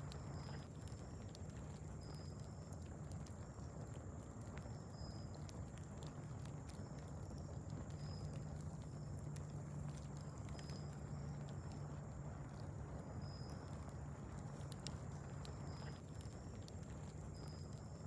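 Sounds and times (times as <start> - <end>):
steady low hum: 0.0 - 18.0
wood fire crackling: 0.0 - 18.0.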